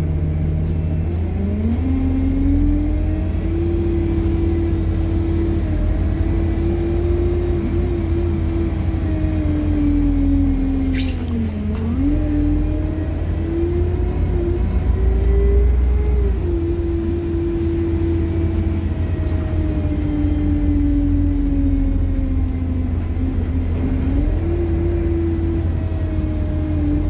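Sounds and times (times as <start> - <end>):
bus interior rumble: 0.0 - 27.0
drivetrain whine: 0.0 - 27.0.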